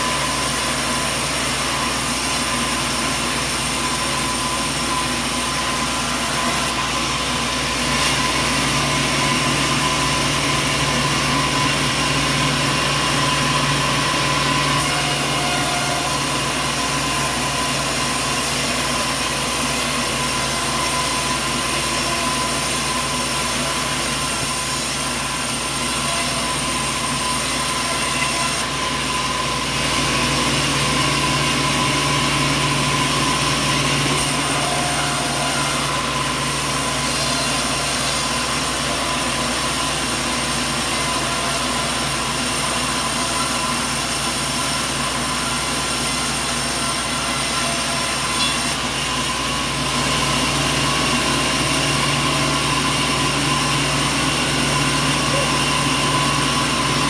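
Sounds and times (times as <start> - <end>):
machine whining tones: 0.0 - 57.0
sawmill machinery drone: 0.0 - 57.0.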